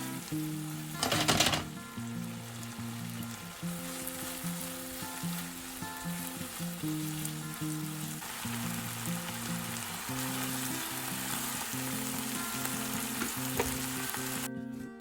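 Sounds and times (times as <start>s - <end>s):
food sizzling in frying pan: 0.0s - 14.5s.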